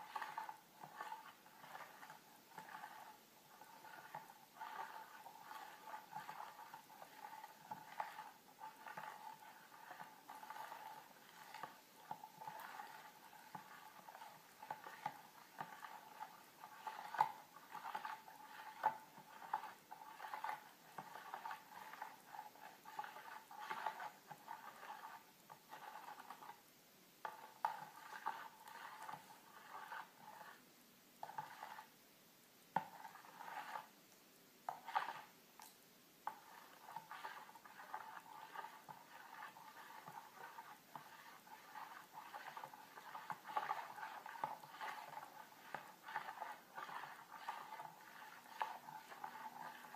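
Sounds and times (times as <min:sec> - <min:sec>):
metal spoon stirring in bowl: 0:00.0 - 0:30.6, 0:31.2 - 0:31.9, 0:32.8 - 0:33.9, 0:34.6 - 0:49.9.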